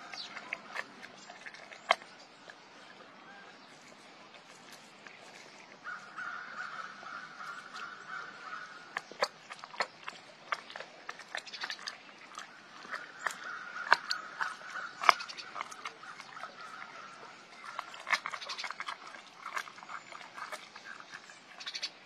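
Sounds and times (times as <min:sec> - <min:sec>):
tiger crunching a bone: 0:00.0 - 0:22.0.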